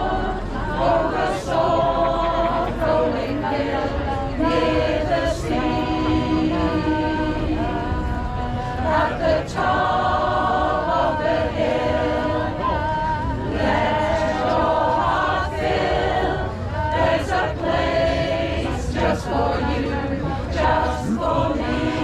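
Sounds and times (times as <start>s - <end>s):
choir singing: 0.0s - 22.0s
steady low rumble: 0.0s - 22.0s.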